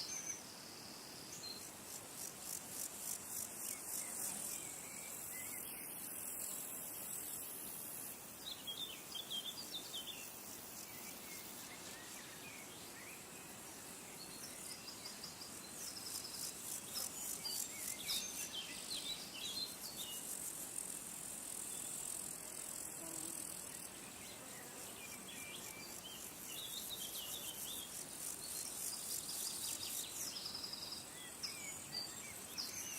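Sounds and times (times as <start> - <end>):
insects chirring: 0.0 - 32.9.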